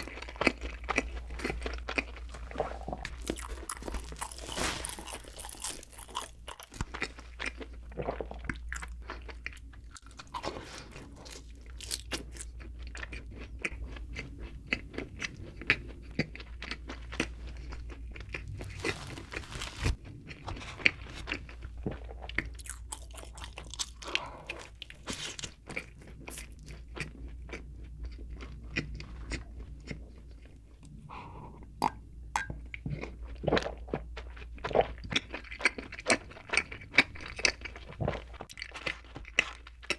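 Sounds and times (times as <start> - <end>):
low steady hum: 0.0 - 39.9
person chewing crunchy food: 0.0 - 39.9.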